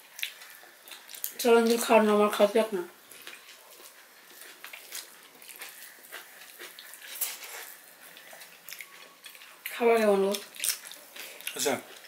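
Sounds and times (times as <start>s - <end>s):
people chewing and lip smacking: 0.0s - 1.9s, 3.0s - 12.0s.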